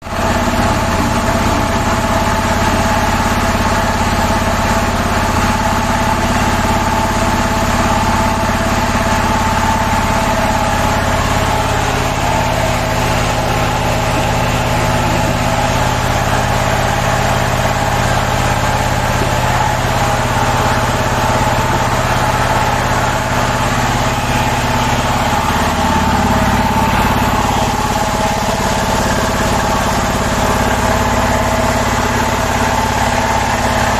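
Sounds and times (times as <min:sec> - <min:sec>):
hydraulic pump whine: 0:00.0 - 0:33.9
motor hum: 0:00.0 - 0:33.9.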